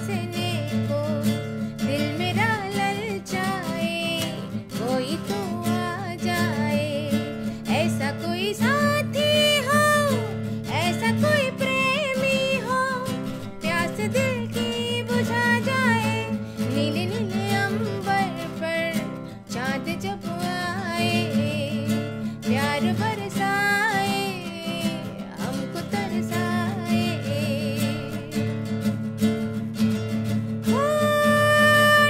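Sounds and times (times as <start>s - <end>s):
woman singing: 0.0s - 29.6s, 30.4s - 32.0s
strummed acoustic guitar: 0.0s - 32.0s.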